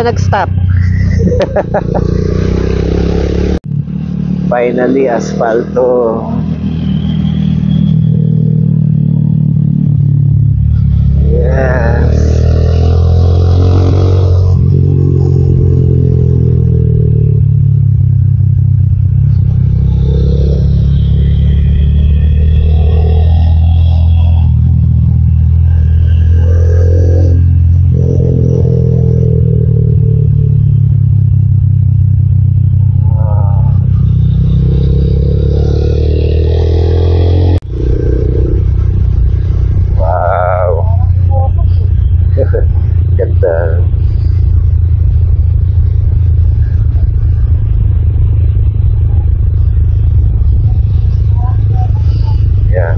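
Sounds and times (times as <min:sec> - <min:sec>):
motorcycle engine drone: 0:00.0 - 0:52.9.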